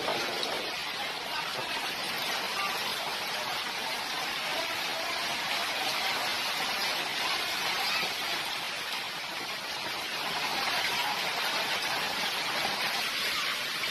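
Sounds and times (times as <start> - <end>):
torrential rain on paving: 0.0 - 13.9.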